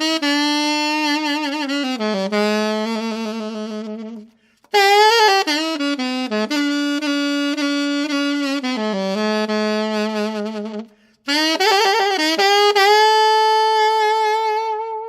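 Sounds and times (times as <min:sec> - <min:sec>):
alto saxophone melody: 0:00.0 - 0:15.0.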